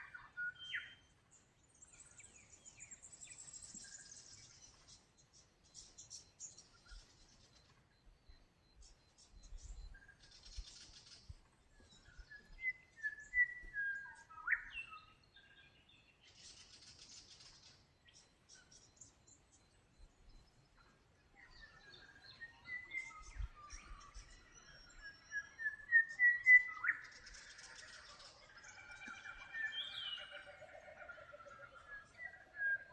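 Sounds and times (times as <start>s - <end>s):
birds singing whistled notes: 0.0s - 32.9s.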